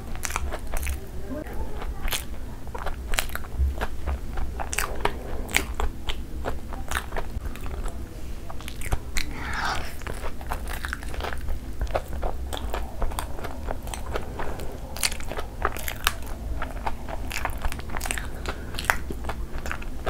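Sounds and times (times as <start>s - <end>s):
chewing and crunching fried food: 0.0s - 9.7s, 10.6s - 20.0s.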